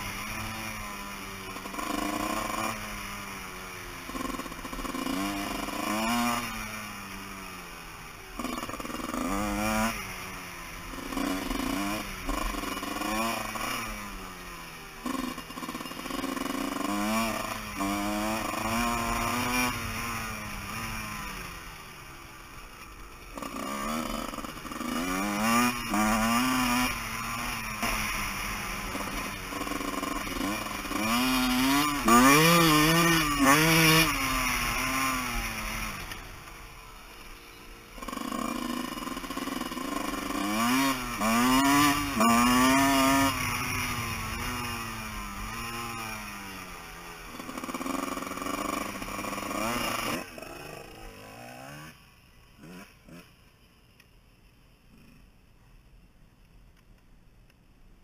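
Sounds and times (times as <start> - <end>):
dirt bike engine revving: 0.0 - 53.5.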